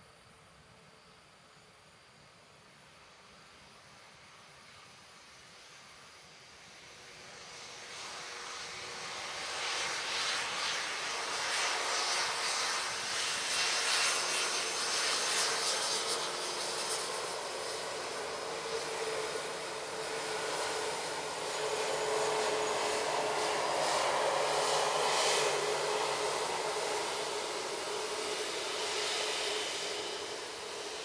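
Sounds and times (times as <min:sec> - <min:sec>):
jet engines whining at idle: 0:00.0 - 0:31.0.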